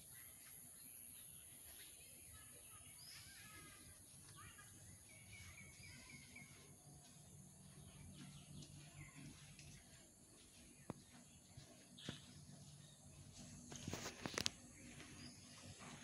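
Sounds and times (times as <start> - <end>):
bird calls and chirps: 0.0 - 16.0
faint low hum: 0.0 - 16.0.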